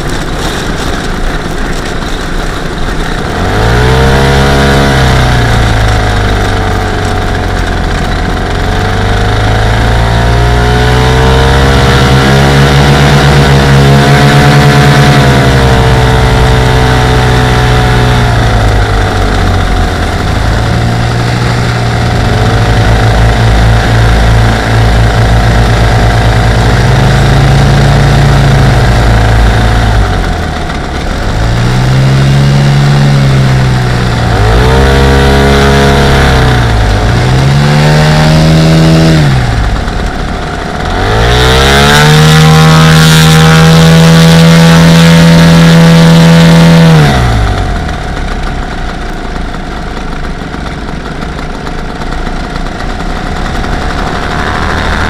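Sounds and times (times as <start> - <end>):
small aircraft engines revving: 0.0 - 55.0.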